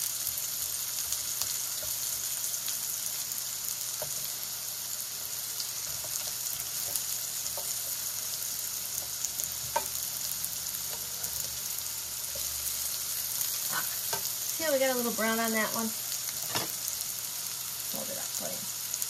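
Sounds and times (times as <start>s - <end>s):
squash sizzling in oil: 0.0s - 19.0s.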